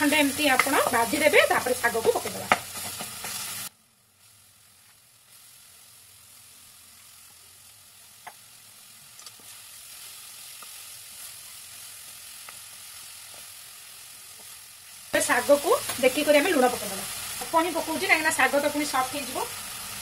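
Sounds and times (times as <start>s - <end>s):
spinach sizzling in pan: 0.0s - 20.0s.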